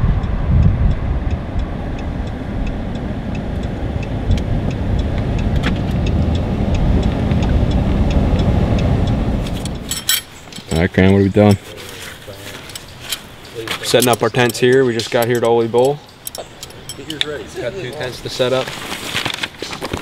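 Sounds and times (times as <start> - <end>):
light regular ticking: 0.0 - 19.5
car road and engine rumble: 0.0 - 20.0.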